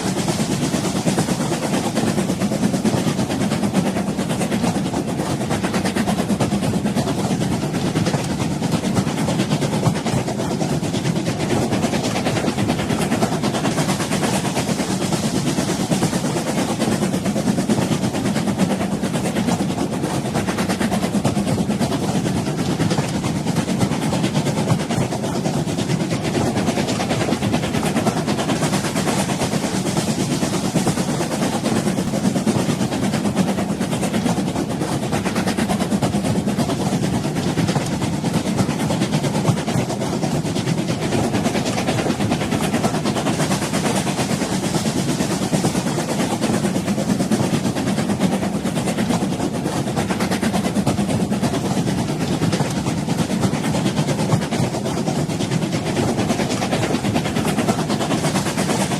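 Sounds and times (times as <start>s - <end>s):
train rumbling: 0.0s - 58.9s.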